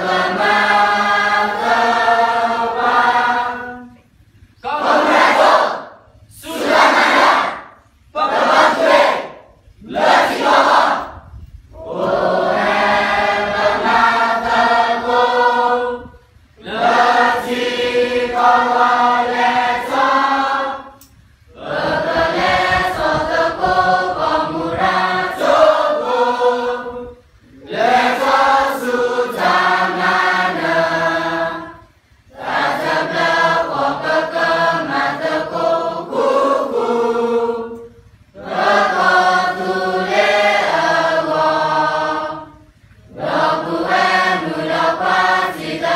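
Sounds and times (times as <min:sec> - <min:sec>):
students singing unaccompanied: 0:00.0 - 0:45.9.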